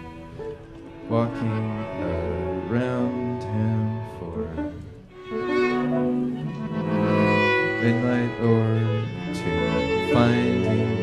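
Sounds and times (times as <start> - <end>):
string ensemble sustained chords: 0.0 - 11.0.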